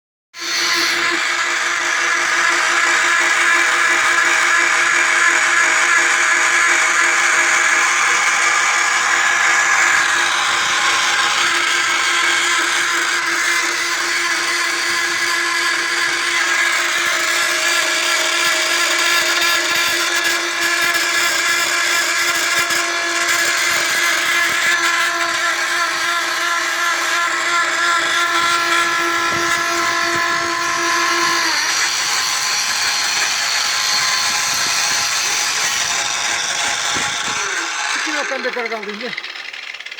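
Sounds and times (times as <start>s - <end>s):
drill press motor whining: 0.4s - 39.9s.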